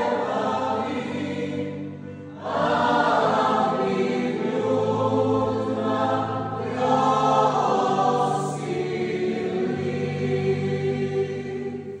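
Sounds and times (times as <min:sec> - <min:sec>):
mixed choir singing carol: 0:00.0 - 0:12.0.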